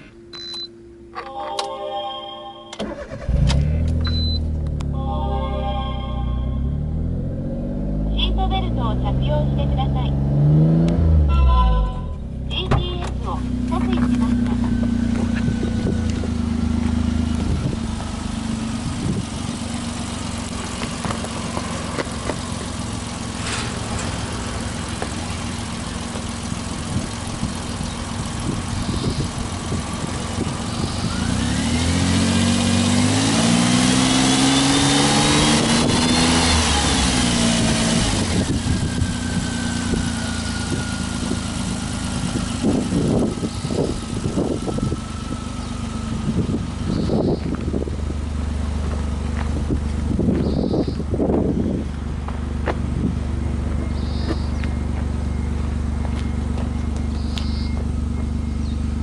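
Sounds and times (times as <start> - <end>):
car engine idling and revving: 2.8 - 59.0
turbo whine: 8.3 - 48.3, 48.9 - 59.0.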